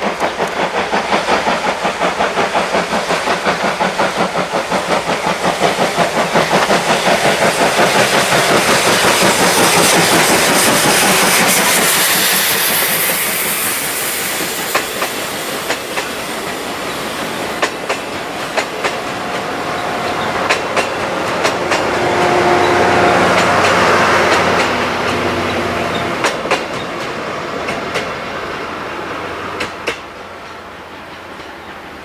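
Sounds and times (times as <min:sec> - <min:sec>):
steam train exhaust beat: 0:00.0 - 0:32.0
train rolling: 0:00.0 - 0:32.0
wheels clicking over rail joints: 0:00.0 - 0:32.0.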